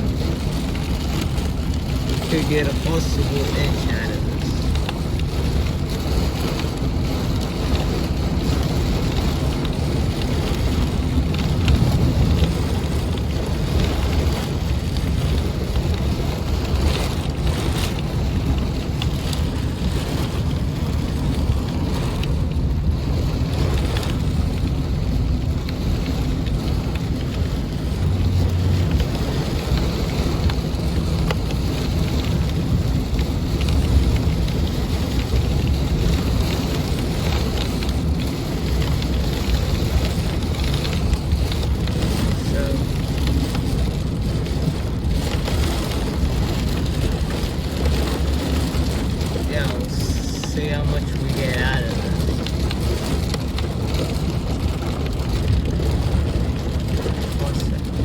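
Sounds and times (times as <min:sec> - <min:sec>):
heavy rain pouring: 0:00.0 - 0:58.0
wind buffeting microphone: 0:00.0 - 0:58.0.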